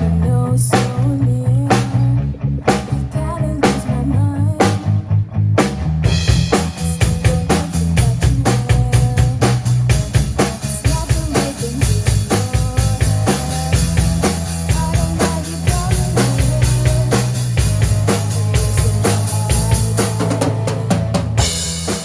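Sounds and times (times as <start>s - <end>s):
band music with drum kit: 0.0s - 22.0s.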